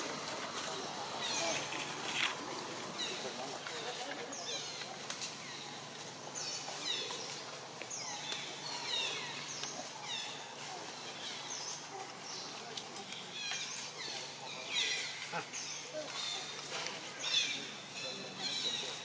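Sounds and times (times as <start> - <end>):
outdoor ambience: 0.0 - 19.0.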